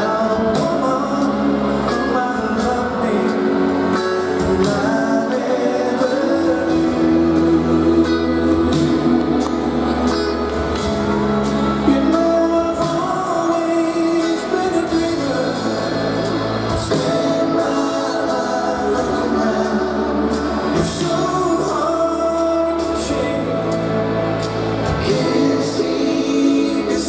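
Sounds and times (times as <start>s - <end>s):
live rock band through pa: 0.0s - 27.0s.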